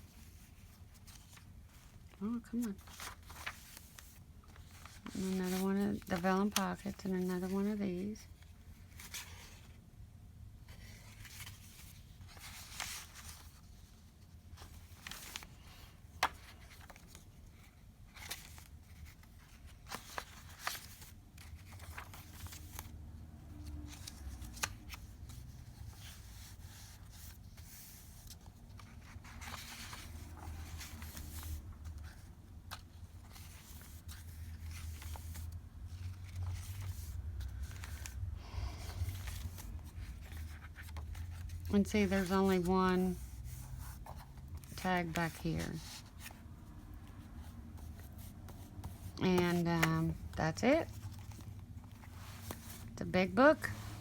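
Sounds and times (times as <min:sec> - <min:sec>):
paper rustling and crinkling: 0:00.0 - 0:09.8, 0:10.7 - 0:54.0.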